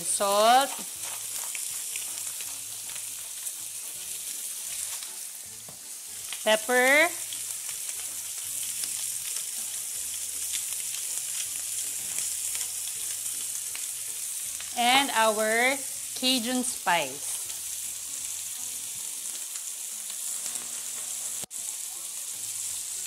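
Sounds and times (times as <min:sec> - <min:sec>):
chicken frying in a pan: 0:00.0 - 0:23.0.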